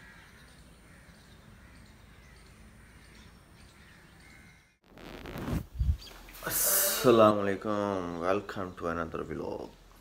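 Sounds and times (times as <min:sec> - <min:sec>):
birds calling: 0:00.0 - 0:04.8, 0:05.4 - 0:09.8.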